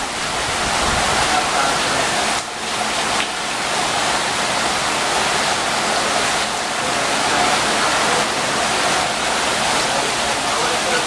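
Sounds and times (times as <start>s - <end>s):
heavy rain rushing: 0.0s - 11.0s.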